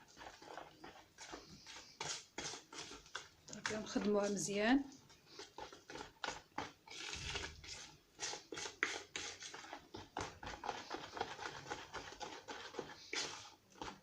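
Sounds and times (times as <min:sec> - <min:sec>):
utensil stirring batter in a bowl: 0:00.0 - 0:14.0.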